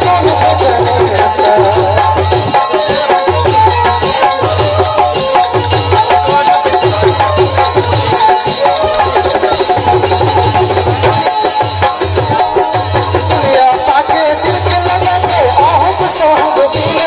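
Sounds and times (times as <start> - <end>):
loud steady drum beat: 0.0 - 17.0
wavering melody: 0.0 - 17.0.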